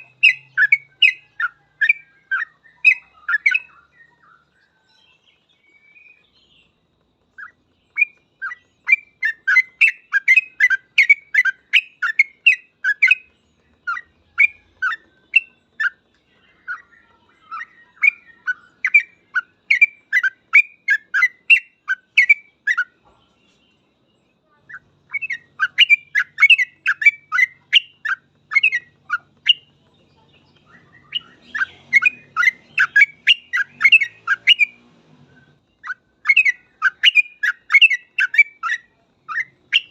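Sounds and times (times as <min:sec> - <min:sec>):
bulbul singing chirpy notes: 0:00.0 - 0:23.0, 0:23.7 - 0:39.9.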